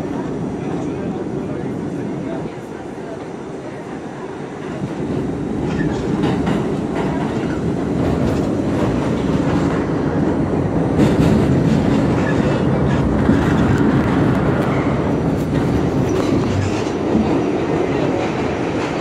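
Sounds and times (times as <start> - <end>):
subway train wheels rumbling: 0.0 - 19.0
rail clicks: 0.1 - 19.0.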